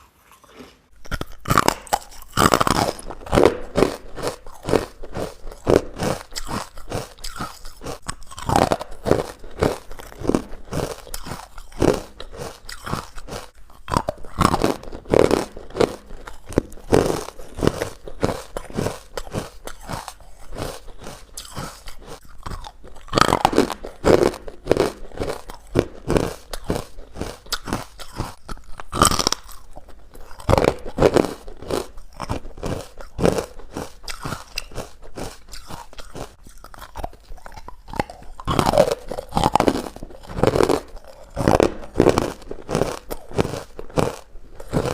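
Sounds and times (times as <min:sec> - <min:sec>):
chewing crunchy ice: 0:00.0 - 0:44.9.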